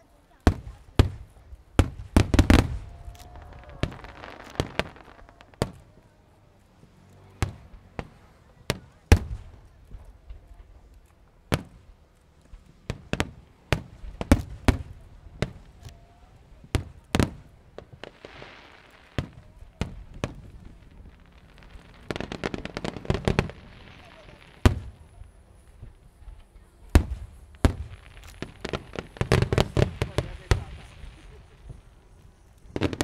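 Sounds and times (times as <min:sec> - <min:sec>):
fireworks bangs: 0:00.2 - 0:33.0.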